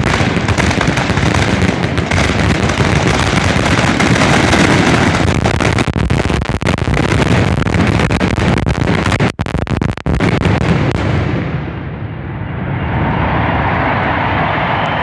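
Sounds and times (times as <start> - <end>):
fireworks launching and bursting: 0.0 - 12.8.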